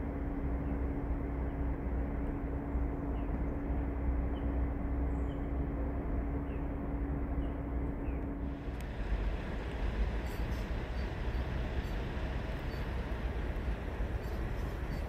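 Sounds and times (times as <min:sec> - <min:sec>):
constant hum: 0:00.0 - 0:15.0
distant train rumble: 0:00.0 - 0:15.0.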